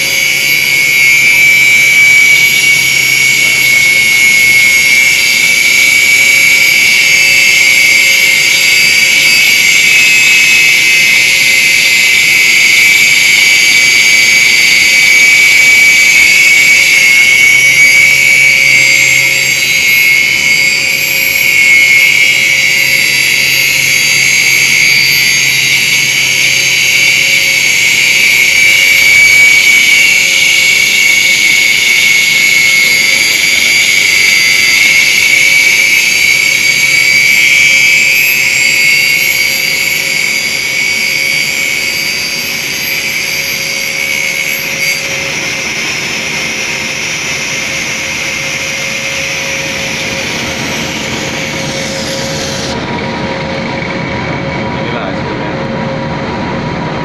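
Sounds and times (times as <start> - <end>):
angle grinder whining: 0.0 - 57.0.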